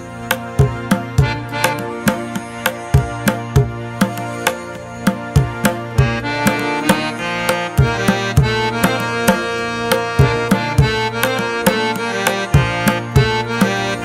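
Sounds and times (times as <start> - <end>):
steady drum beat: 0.0 - 14.0
sustained melodic notes: 0.0 - 14.0.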